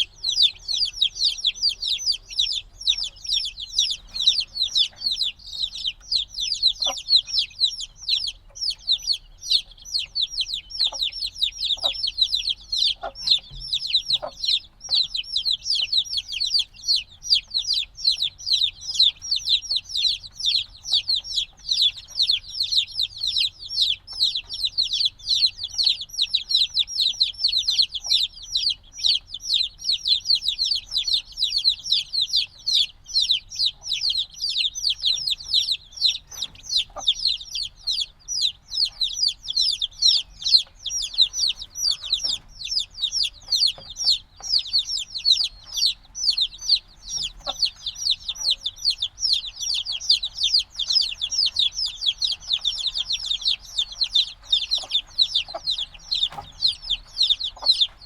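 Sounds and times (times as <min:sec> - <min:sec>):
chicks peeping loudly: 0:00.0 - 0:58.0.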